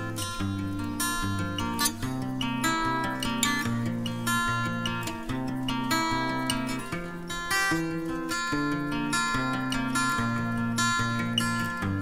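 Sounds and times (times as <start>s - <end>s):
plucked acoustic guitar melody: 0.0s - 12.0s.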